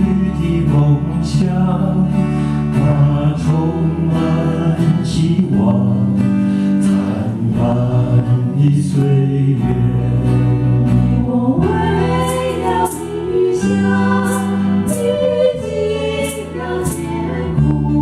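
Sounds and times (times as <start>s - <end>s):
guitar accompaniment: 0.0s - 18.0s
vocal group singing a ballad: 0.0s - 18.0s.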